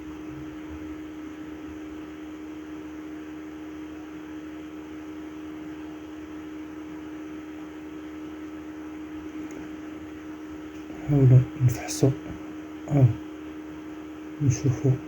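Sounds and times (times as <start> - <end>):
fan-like hiss: 0.0 - 15.0
low electrical hum: 0.0 - 15.0.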